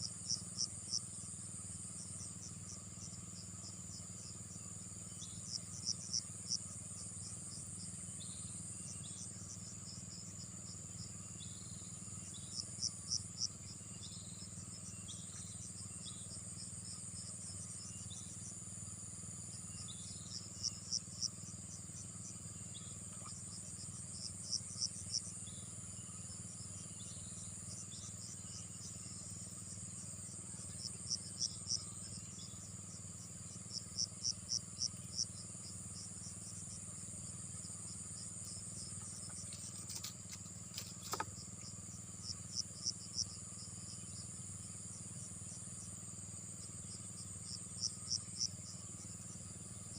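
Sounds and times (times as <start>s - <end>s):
insect chirps: 0.0s - 49.9s
insects droning: 0.0s - 49.9s.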